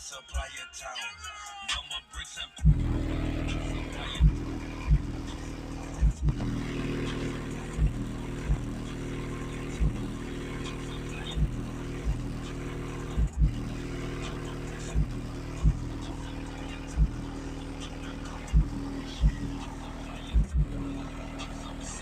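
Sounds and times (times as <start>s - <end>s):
deep bass hits from subwoofer: 2.6s - 22.0s
steady low drone: 2.6s - 22.0s.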